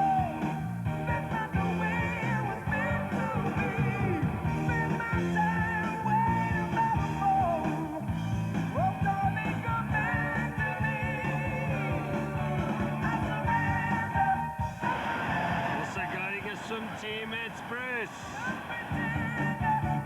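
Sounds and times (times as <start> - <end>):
rock music with singing: 0.0 - 20.0.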